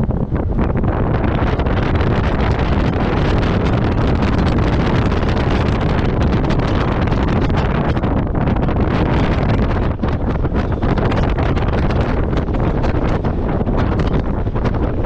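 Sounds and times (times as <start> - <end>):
vehicle engine and tyres rumbling: 0.0 - 15.0
wind buffeting microphone: 0.0 - 15.0.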